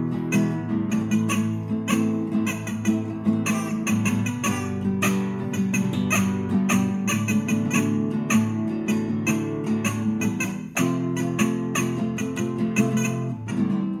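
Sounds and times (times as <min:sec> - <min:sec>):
acoustic guitar picking: 0:00.0 - 0:14.0.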